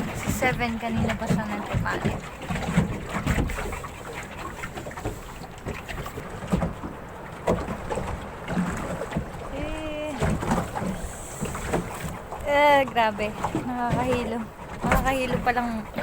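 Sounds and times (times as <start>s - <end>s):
low rumbling water: 0.0s - 16.0s
wind buffeting microphone: 0.0s - 16.0s.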